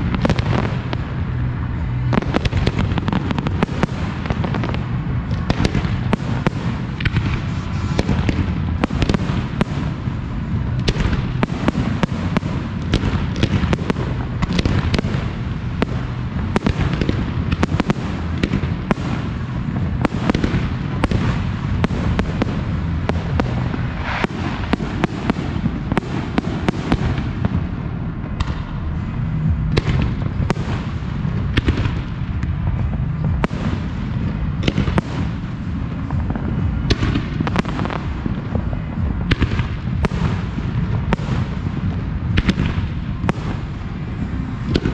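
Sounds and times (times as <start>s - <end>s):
fireworks bursting and cracking: 0.0s - 44.9s.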